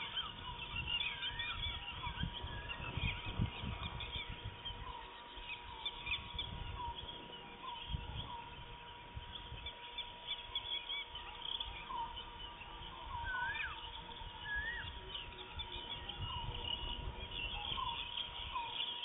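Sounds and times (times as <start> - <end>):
faint high hum: 0.0 - 19.0
small birds chirping: 0.0 - 19.0.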